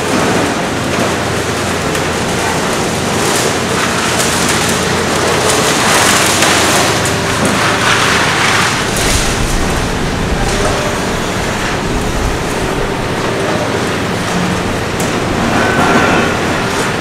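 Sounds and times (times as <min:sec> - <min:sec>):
concrete crunching and rattling: 0:00.0 - 0:17.0
excavator diesel engine: 0:00.0 - 0:17.0.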